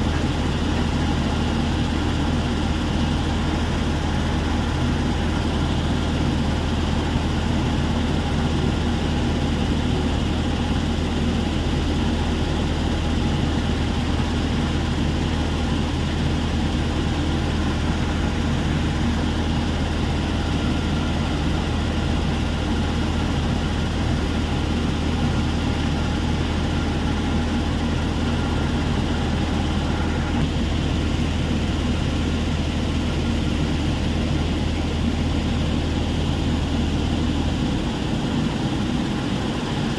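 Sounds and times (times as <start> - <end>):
faint machine whine: 0.0 - 39.9
heavy machinery drone: 0.0 - 39.9.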